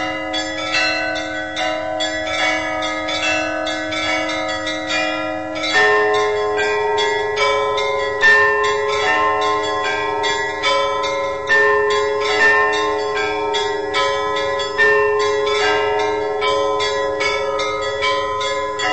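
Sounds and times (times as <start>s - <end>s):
church bells ringing: 0.0s - 18.9s.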